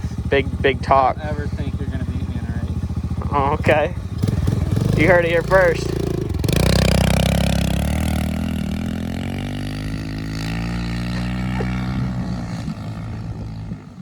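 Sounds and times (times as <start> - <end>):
pit bike engine under throttle: 0.0 - 14.0.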